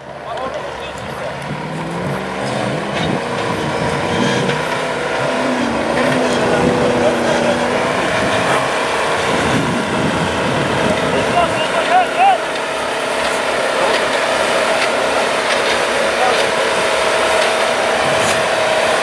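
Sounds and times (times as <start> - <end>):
car engine revving hard: 0.0 - 19.0
tyres spinning in snow: 0.0 - 19.0.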